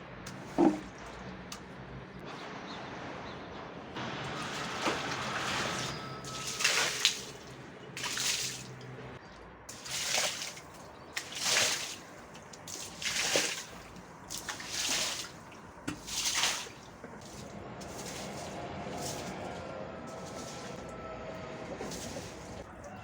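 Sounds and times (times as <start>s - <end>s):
water splashing: 0.3s - 1.8s, 4.2s - 23.0s.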